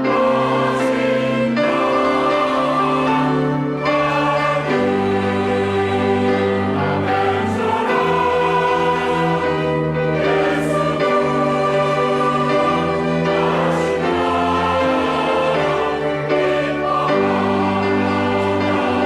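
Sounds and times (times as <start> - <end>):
church choir singing: 0.0 - 19.0.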